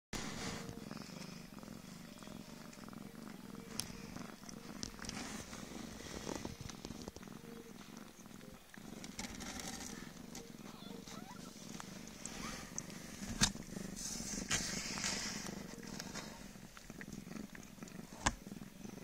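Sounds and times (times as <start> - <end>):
cat purring: 0.2 - 19.0.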